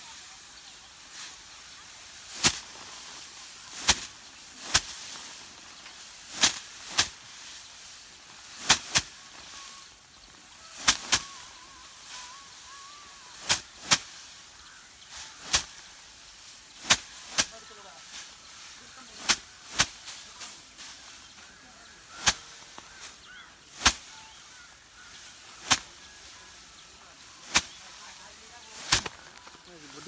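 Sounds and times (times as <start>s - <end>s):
rice sheaves whacking hard surface: 0.3s - 30.0s.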